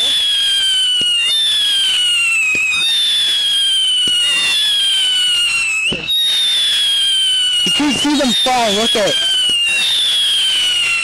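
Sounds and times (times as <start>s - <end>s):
faint fireworks pops: 0.0s - 11.0s
whistling fireworks shrieking: 0.0s - 11.0s.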